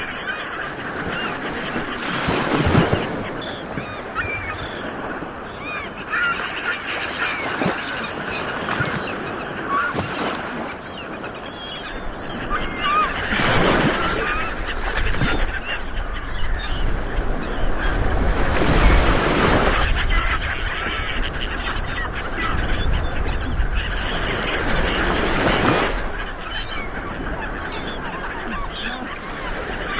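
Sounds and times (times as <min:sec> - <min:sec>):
ocean waves breaking: 0:00.0 - 0:29.9.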